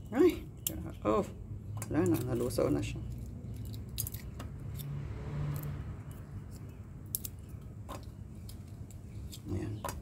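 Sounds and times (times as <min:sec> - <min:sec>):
walnut shell cracking: 0:00.4 - 0:01.1, 0:01.7 - 0:10.0.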